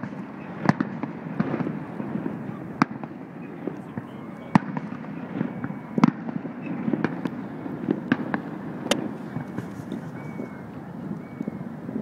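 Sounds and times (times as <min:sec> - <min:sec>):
distant fireworks bangs: 0:00.0 - 0:12.0.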